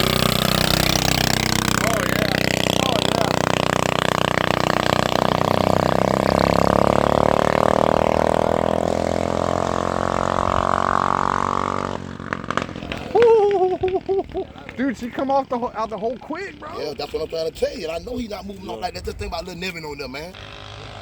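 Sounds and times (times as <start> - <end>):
small engine revving high: 0.0 - 14.4, 15.0 - 21.0.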